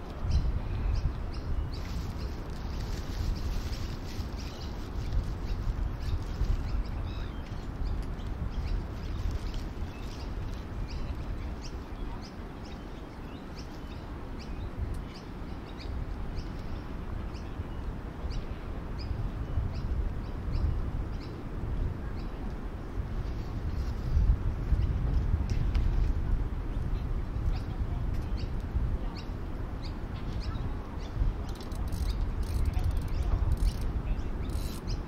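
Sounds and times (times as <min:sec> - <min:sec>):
small birds chirping: 0:00.2 - 0:21.4, 0:26.7 - 0:35.0.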